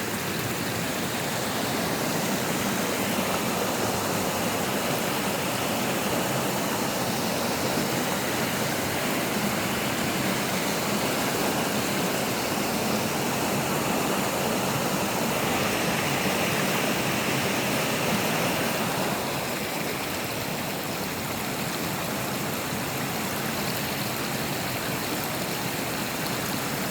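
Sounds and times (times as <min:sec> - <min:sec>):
brook flowing: 0:00.0 - 0:26.9.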